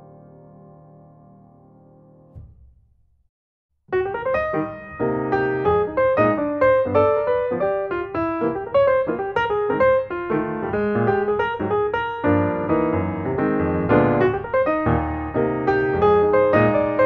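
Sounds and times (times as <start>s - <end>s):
piano music: 0.0s - 2.5s, 3.9s - 17.0s.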